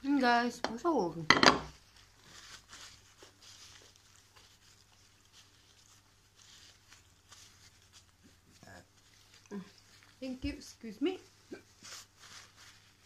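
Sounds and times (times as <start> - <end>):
faint soft rustles: 1.7 - 13.0.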